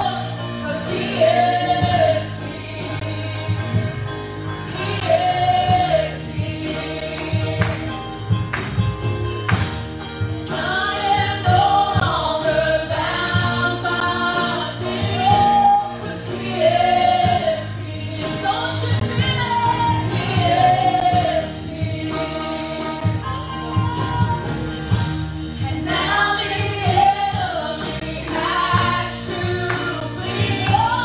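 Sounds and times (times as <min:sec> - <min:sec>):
group of singers: 0:00.0 - 0:08.8, 0:09.6 - 0:31.0
live band: 0:00.0 - 0:31.0.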